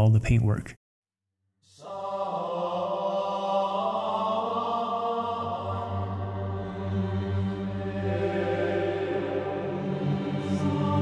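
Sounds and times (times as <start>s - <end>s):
choir-like chanting: 1.7s - 11.0s.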